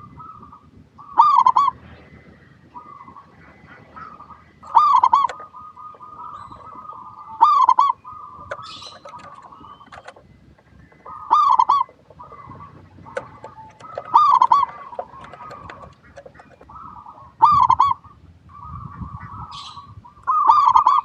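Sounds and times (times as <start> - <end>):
dove soft steady cooing: 0.0 - 21.0
dove loud rolling coos: 0.1 - 18.8.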